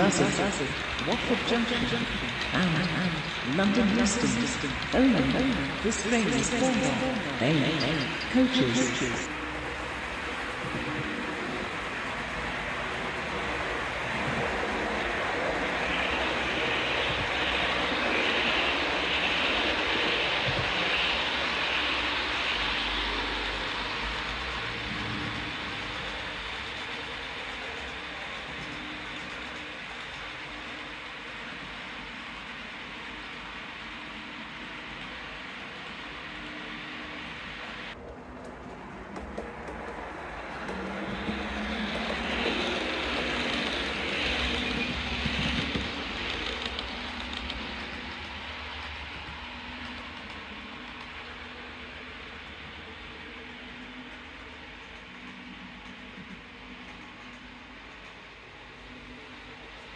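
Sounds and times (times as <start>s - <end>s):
train passing at speed: 0.0s - 59.9s.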